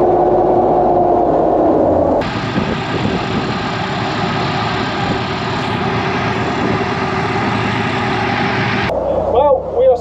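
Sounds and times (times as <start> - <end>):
truck engine droning: 0.0 - 9.3.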